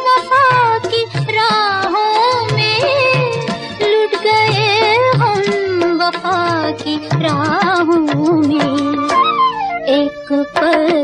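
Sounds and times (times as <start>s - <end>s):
instrumental film song melody: 0.0s - 11.0s.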